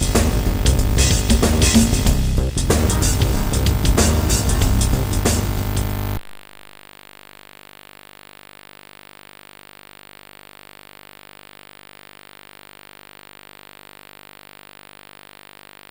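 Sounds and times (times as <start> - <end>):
electrical hum: 0.0 - 15.9.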